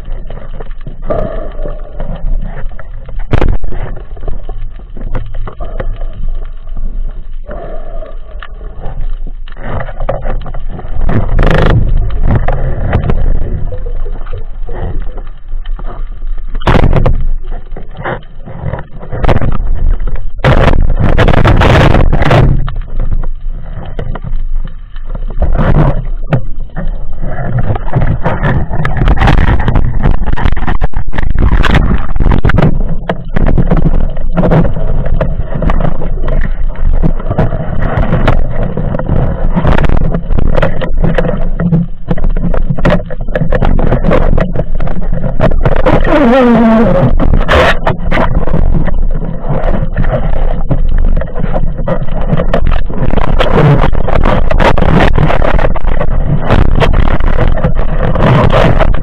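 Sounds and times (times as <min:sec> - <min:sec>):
underwater rushing water: 0:00.0 - 0:59.0.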